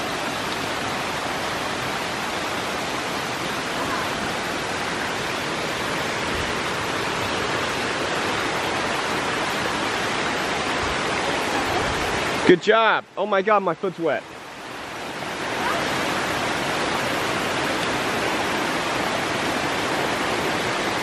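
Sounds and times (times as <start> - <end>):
stream cascading over rocks: 0.0 - 21.0.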